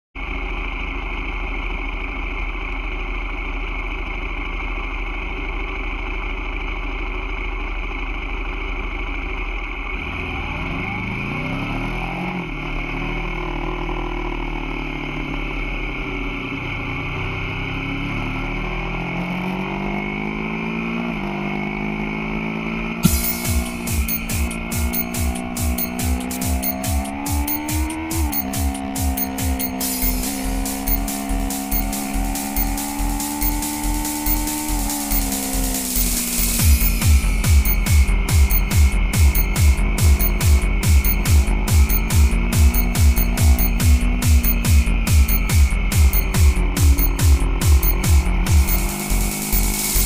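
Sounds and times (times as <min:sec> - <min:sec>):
motorcycle engine accelerating: 0:09.8 - 0:50.0.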